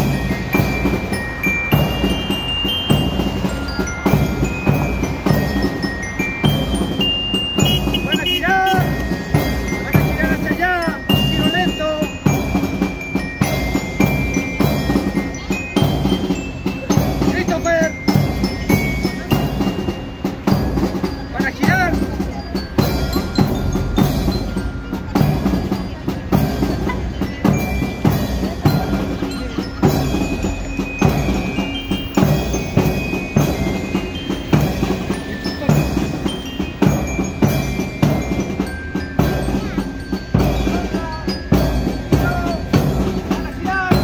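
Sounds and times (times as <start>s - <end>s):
bell lyre melody: 0.0s - 44.0s
snare drums beating: 0.0s - 44.0s.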